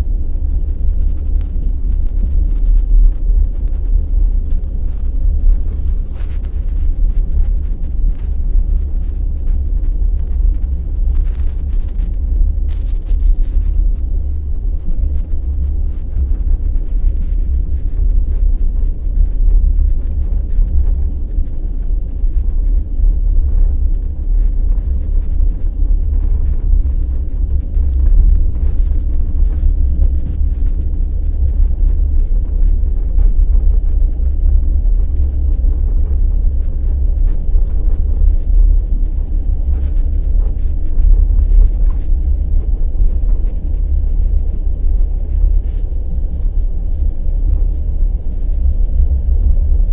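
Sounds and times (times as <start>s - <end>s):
train rumbling at speed: 0.0s - 49.9s.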